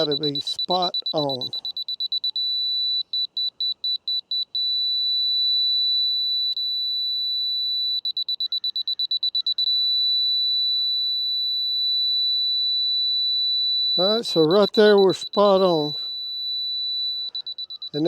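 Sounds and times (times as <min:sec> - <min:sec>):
fast beeping: 0:00.0 - 0:18.0
steady high beep tone: 0:00.0 - 0:18.0.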